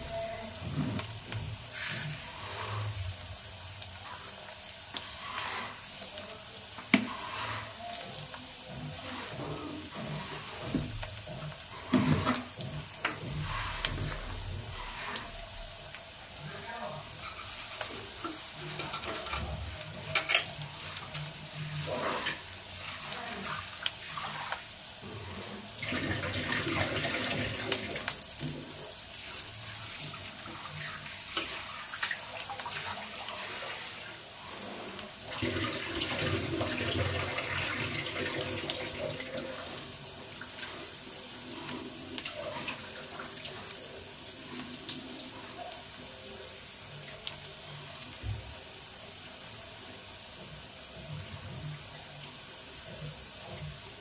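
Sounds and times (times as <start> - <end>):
onions sizzling in a pan: 0.0 - 54.0.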